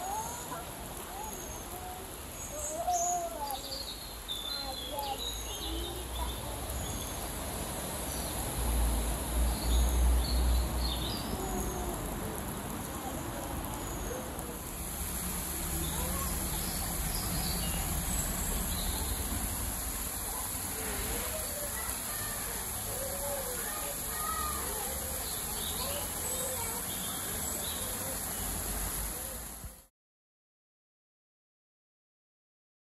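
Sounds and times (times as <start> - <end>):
stream running over stones: 0.0 - 29.9.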